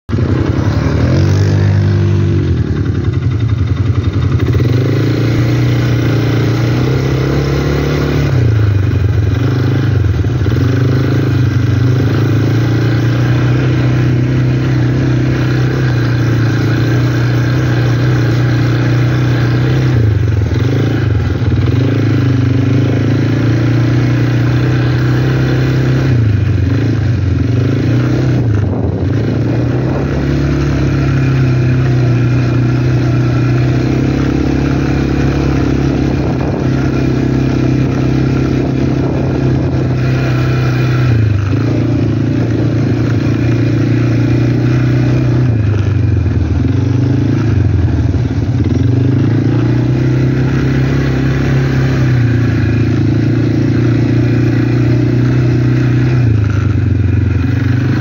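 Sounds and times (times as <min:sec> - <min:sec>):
quad bike engine revving: 0:00.1 - 0:58.0.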